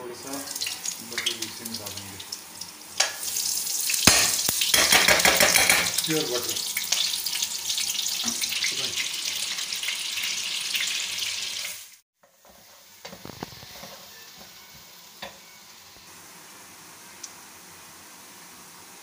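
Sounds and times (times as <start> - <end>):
butter sizzling in hot oil: 0.0 - 19.0
onions frying in oil: 0.0 - 19.0.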